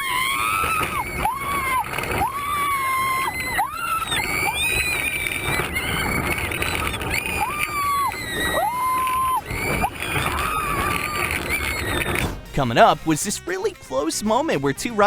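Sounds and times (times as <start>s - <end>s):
rush of moving ride: 0.0s - 15.0s.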